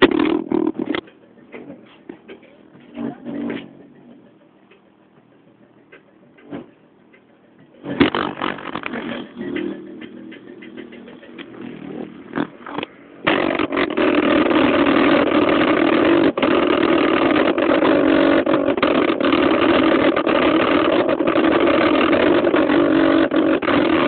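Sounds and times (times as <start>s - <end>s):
subwoofer playing bass: 0.0s - 4.5s, 5.3s - 24.0s.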